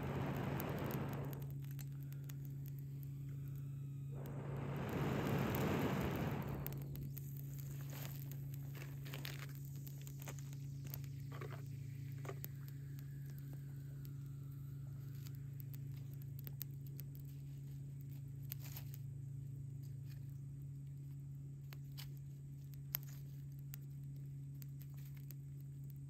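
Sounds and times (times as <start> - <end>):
low hum: 0.0 - 26.0
twig fire crackling: 0.0 - 26.0.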